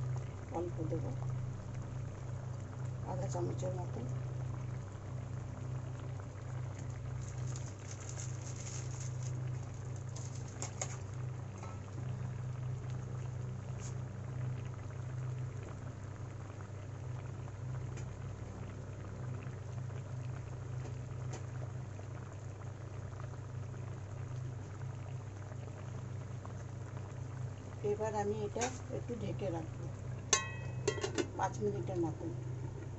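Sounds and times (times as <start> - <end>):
curry bubbling and crackling: 0.0 - 32.9
steady low hum: 0.0 - 32.9.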